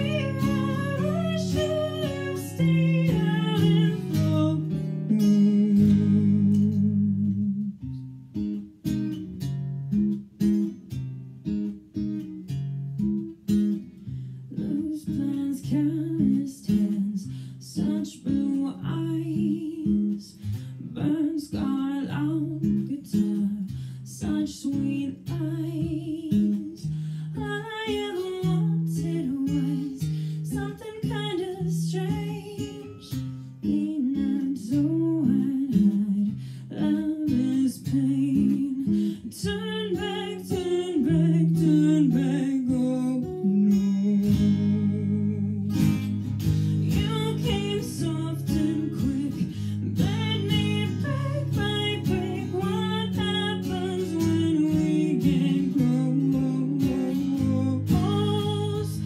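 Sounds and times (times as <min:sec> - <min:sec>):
woman singing into a microphone: 0:00.0 - 0:07.8, 0:14.5 - 0:45.8, 0:46.6 - 0:59.0
acoustic guitar in waltz time: 0:00.0 - 0:59.0.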